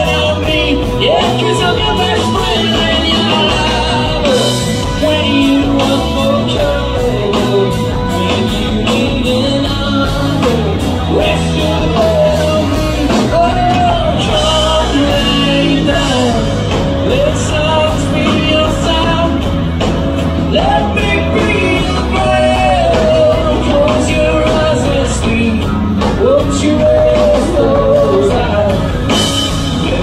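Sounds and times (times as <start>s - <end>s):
drum kit with cymbal hits: 0.0s - 30.0s
electric guitar bending melody: 0.0s - 30.0s.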